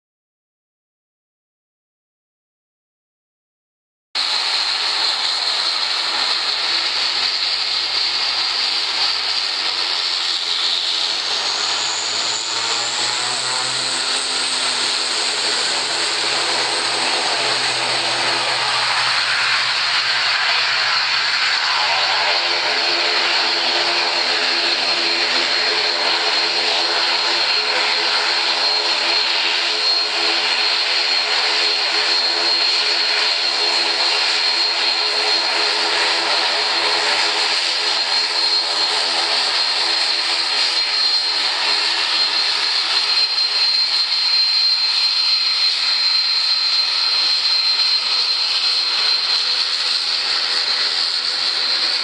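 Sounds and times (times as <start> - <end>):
jet engine whine: 4.2 - 52.0.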